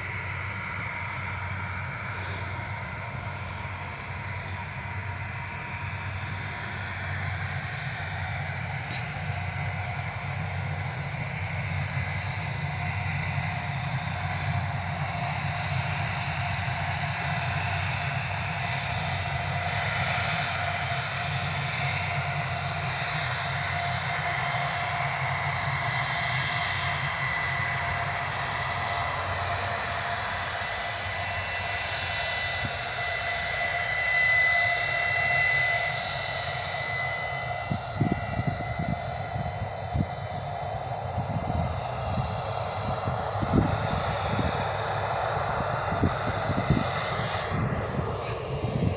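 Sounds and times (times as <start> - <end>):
aircraft engines rumbling and whining: 0.0 - 48.9.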